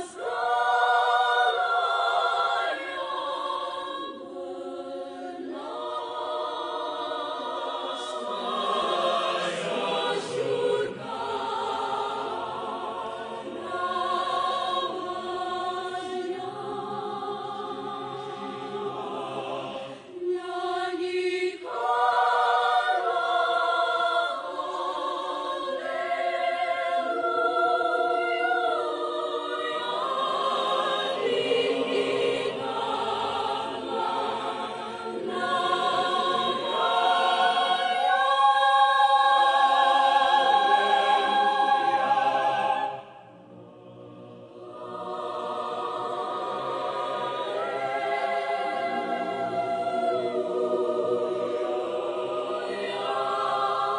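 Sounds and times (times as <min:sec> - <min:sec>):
choir singing held chords: 0:00.0 - 0:53.9.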